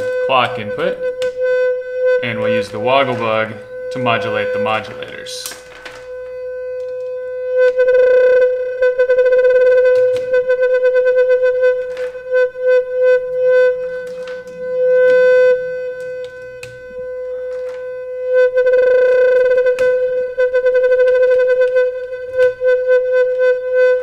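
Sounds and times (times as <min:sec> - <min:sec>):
pulsing synthesizer note: 0:00.0 - 0:24.0.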